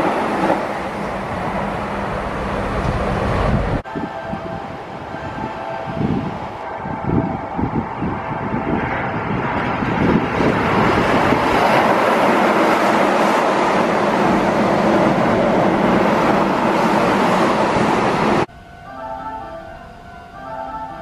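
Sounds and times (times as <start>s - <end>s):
train wheels rushing on rails: 0.0s - 18.5s.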